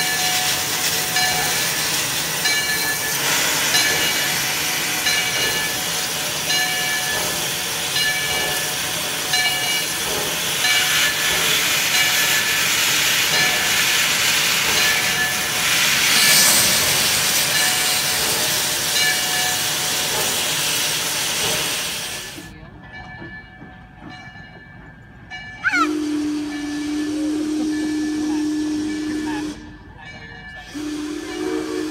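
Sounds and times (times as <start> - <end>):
steam hissing: 0.0 - 22.5, 25.8 - 29.8, 30.6 - 31.9
rush of steam: 0.0 - 22.6, 25.6 - 31.9.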